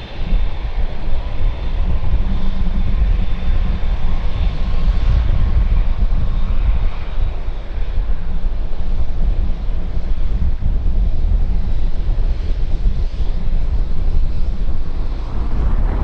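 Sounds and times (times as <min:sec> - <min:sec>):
high engine whine: 0:00.0 - 0:16.0
jet engines rumbling: 0:00.0 - 0:16.0.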